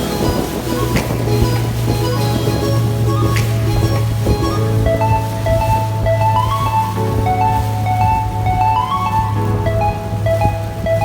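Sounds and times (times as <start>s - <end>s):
held chords: 0.0s - 11.0s.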